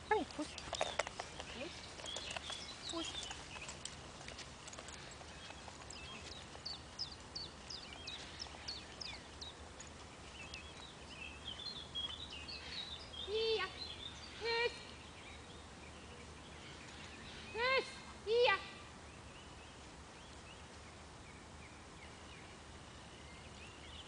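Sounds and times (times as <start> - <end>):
birds chirping and warbling: 0.0 - 24.0.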